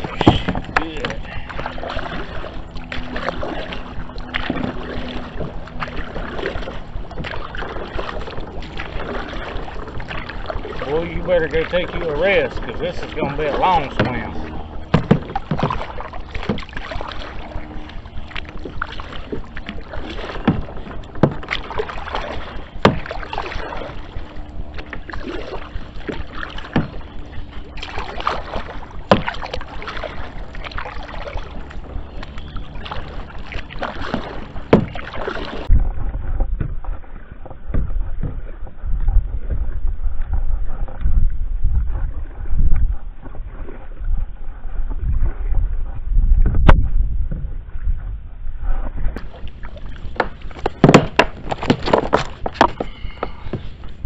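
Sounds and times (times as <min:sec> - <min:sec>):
low rumble: 0:00.0 - 0:50.6
paddle splashing through water: 0:00.0 - 0:54.0.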